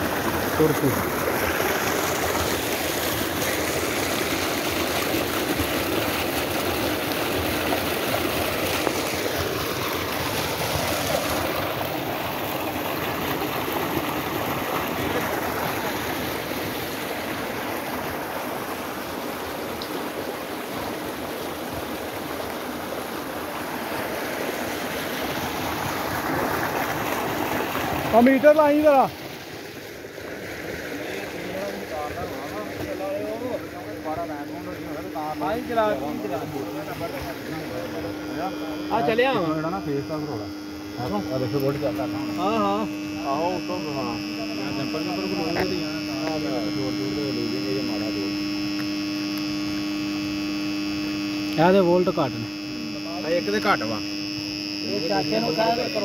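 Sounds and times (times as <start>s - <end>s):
water gushing into pool: 0.0s - 56.0s.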